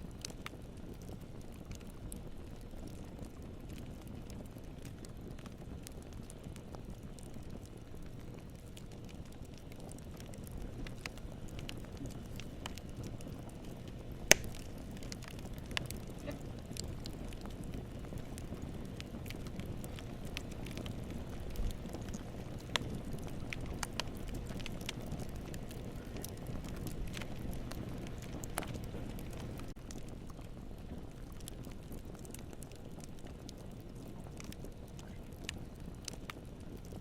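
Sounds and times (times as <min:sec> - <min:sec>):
wood crackling and popping: 0:00.0 - 0:37.0.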